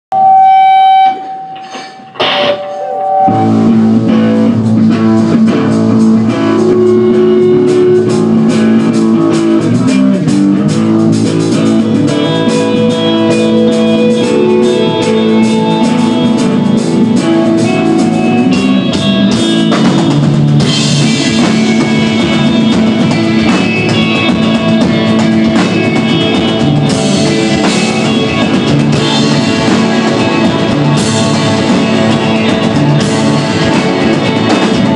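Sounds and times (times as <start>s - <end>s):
rock band playing live: 0.2s - 34.9s.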